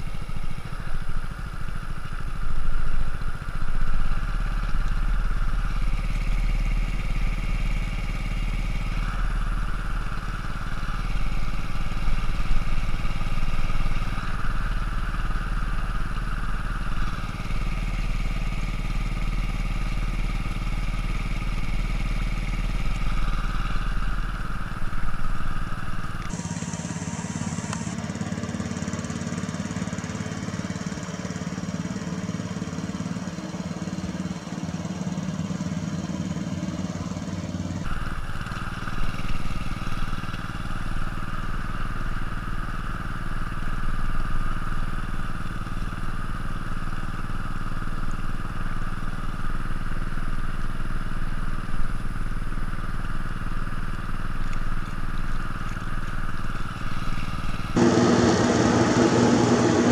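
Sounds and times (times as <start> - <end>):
small gas engine running: 0.0 - 59.9.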